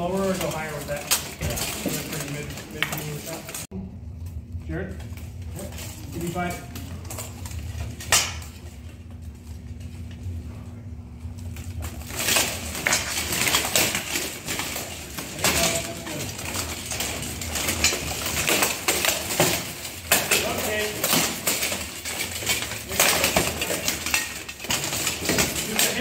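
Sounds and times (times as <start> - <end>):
armour plates clanking: 0.0 - 3.7, 5.0 - 8.9, 11.8 - 26.0
low steady hum: 0.0 - 26.0.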